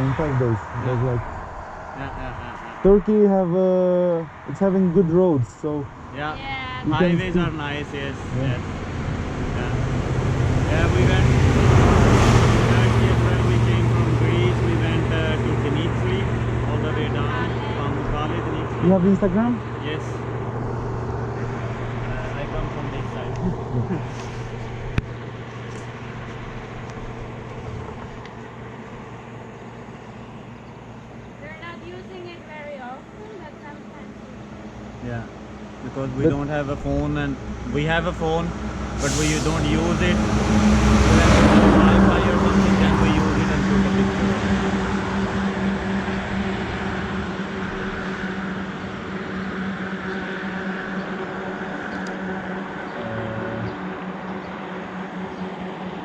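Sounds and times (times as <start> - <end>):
road noise hiss: 0.0 - 56.0
vehicle engine humming: 0.0 - 56.0.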